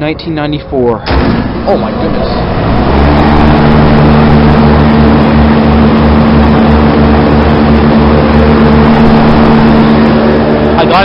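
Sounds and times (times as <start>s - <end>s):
condensing unit humming: 0.0s - 11.0s.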